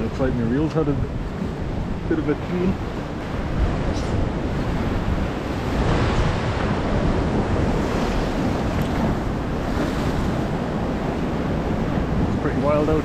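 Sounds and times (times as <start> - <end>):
wind buffeting microphone: 0.0 - 13.0
sea swell washing against rocks: 1.0 - 13.0.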